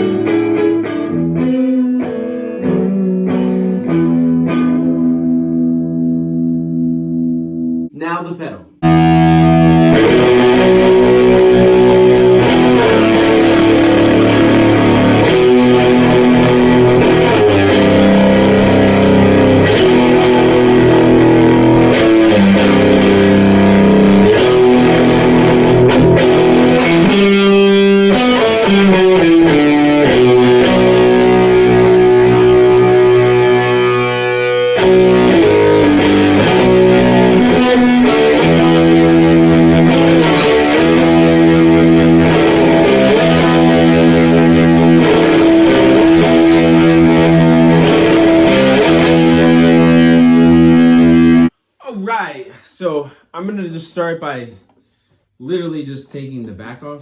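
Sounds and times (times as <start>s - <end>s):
distorted electric guitar: 0.0s - 51.5s.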